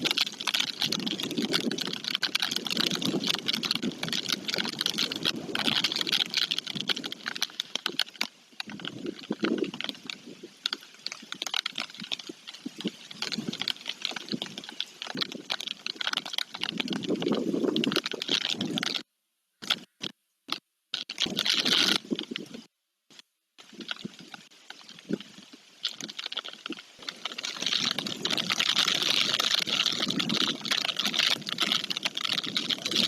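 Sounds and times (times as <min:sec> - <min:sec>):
rain pattering: 0:00.0 - 0:19.0, 0:19.6 - 0:33.0.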